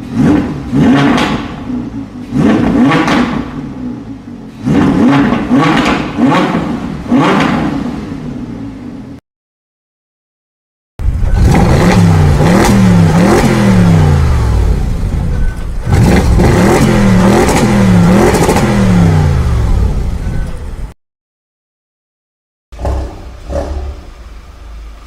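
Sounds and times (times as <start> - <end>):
car engine revving: 0.0 - 9.2, 11.0 - 20.9, 22.7 - 25.0.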